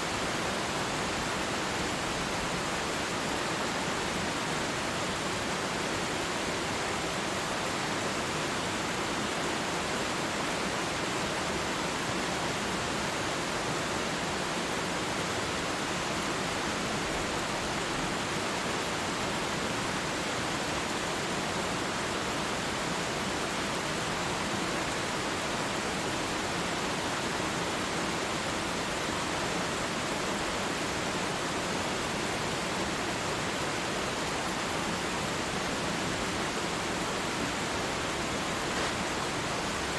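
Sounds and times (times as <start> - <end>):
waterfall roar: 0.0 - 39.9.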